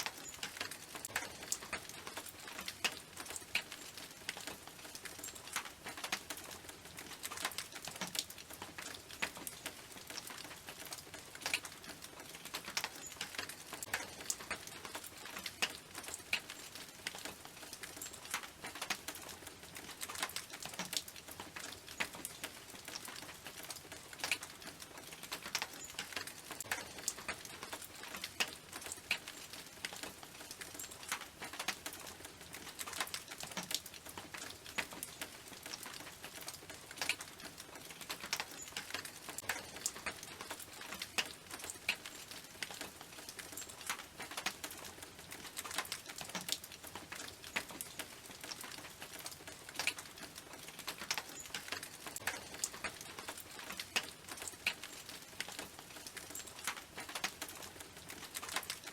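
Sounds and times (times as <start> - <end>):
rain on a tin roof: 0.0 - 58.9.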